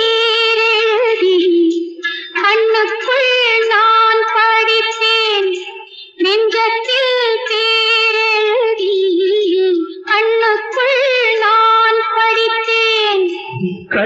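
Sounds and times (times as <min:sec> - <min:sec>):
woman singing wordless melody: 0:00.0 - 0:13.5.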